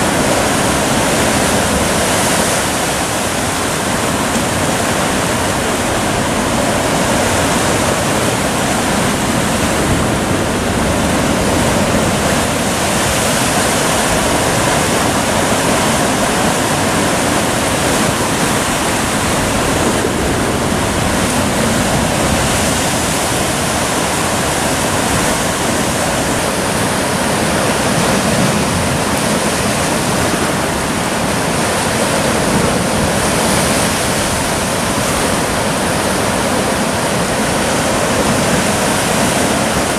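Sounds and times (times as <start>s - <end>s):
surf breaking against rocks: 0.0s - 39.9s.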